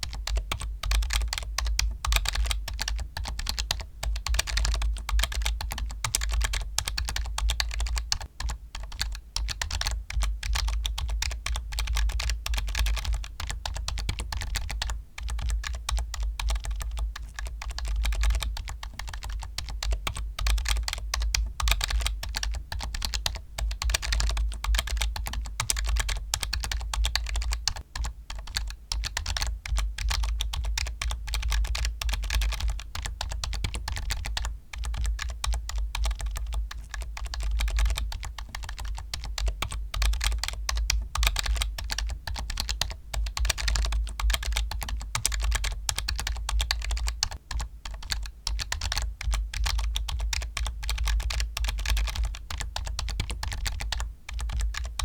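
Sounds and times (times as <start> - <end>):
fast typing on keyboard: 0.0 - 55.0.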